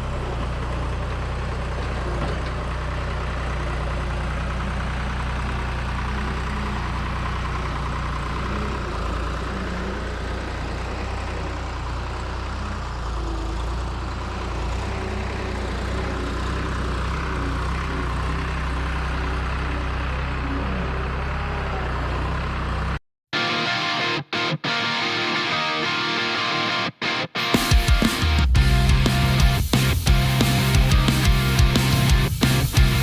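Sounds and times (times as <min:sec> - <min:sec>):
skid steer engine running: 0:00.0 - 0:23.0, 0:27.6 - 0:33.0.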